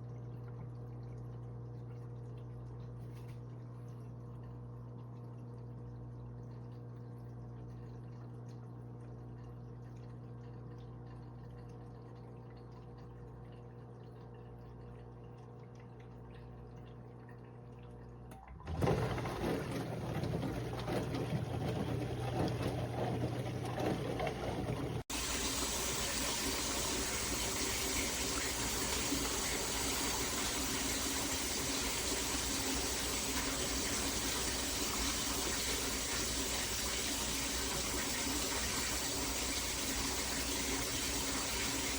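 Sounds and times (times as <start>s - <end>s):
dishwasher pump hum: 0.0s - 41.9s.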